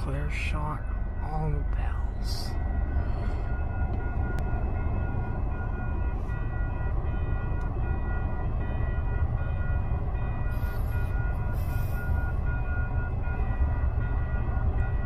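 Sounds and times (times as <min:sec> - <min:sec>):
level crossing warning bell: 0:00.0 - 0:15.0
low constant rumble: 0:00.0 - 0:15.0.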